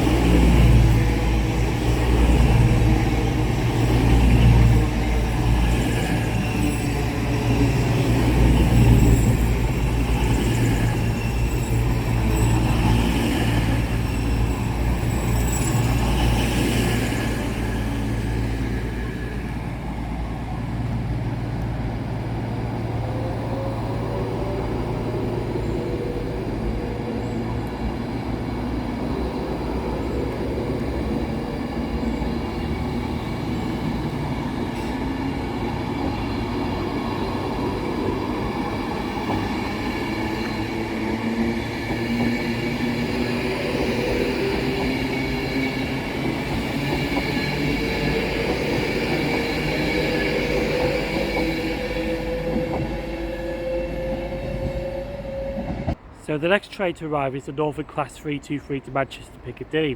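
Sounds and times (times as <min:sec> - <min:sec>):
train high whining tones: 0:00.0 - 0:56.4
train rumbling: 0:00.0 - 0:59.9.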